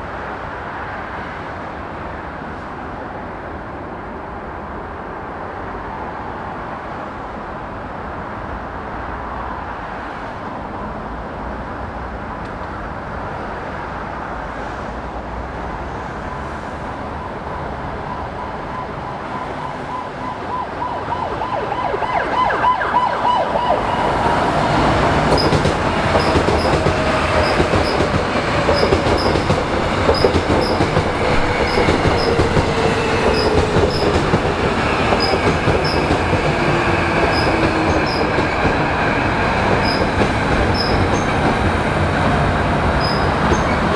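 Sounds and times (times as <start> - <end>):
electric train rumbling: 0.0 - 43.9.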